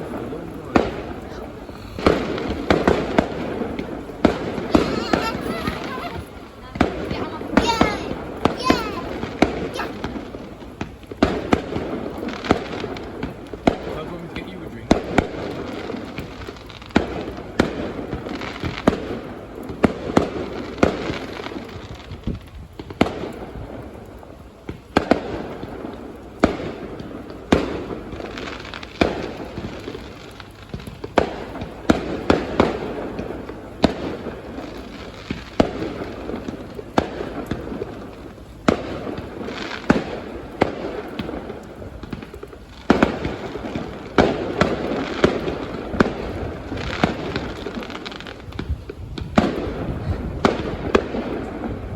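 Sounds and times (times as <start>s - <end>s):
fireworks bangs: 0.0s - 23.8s, 24.7s - 51.9s
fireworks crackling: 0.0s - 51.9s.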